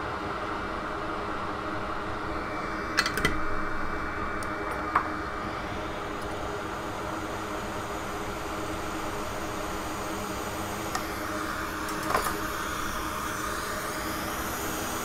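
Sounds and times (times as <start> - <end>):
fan whirring hum: 0.0 - 15.0.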